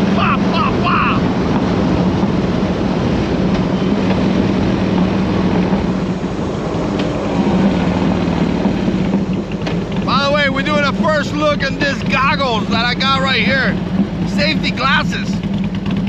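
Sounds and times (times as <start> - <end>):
wind rush on microphone: 0.0 - 15.8
motorcycle engine running: 0.0 - 16.0.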